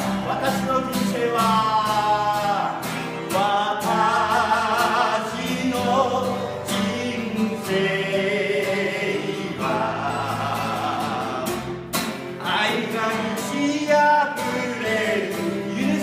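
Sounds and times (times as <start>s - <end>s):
man singing: 0.0s - 16.0s
strummed acoustic guitar: 0.0s - 16.0s.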